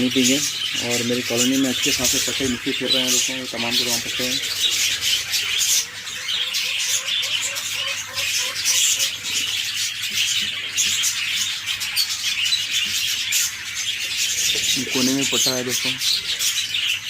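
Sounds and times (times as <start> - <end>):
budgerigars chattering and warbling: 0.0 - 17.0.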